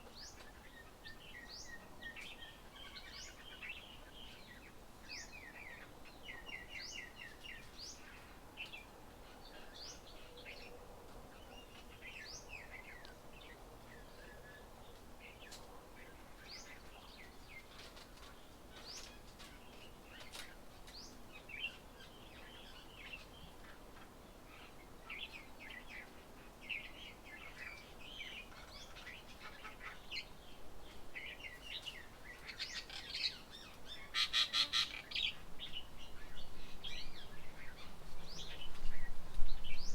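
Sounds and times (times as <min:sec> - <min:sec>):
small birds chirping: 0:00.0 - 0:10.6, 0:11.3 - 0:39.9.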